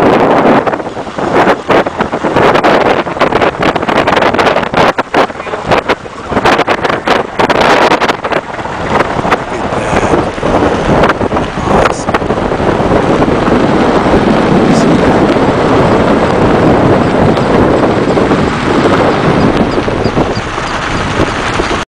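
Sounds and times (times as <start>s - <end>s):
wind blowing across microphone: 0.0s - 21.8s.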